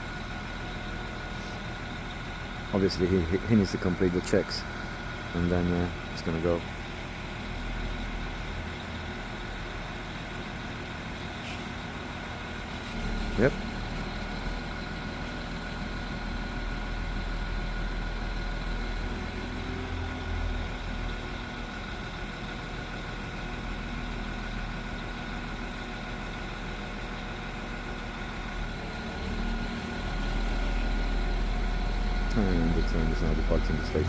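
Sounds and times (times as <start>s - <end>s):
train diesel engines idling: 0.0s - 34.0s.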